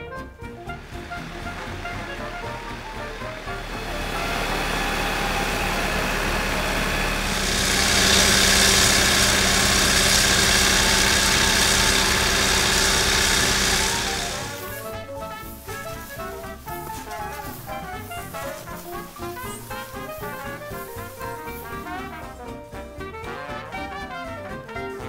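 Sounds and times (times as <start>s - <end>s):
tractor engine running: 0.1s - 22.3s
rushing hiss of thrown snow: 1.0s - 21.9s.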